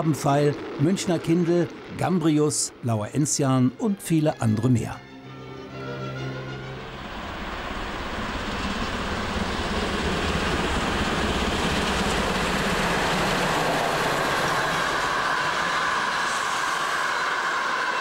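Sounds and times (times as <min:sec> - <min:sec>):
steam train passing: 0:00.0 - 0:04.1, 0:06.5 - 0:18.0.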